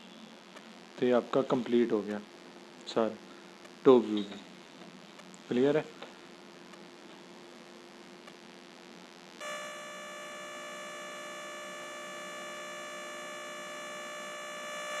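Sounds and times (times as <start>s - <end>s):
electronic buzzing hum: 0.0s - 15.0s.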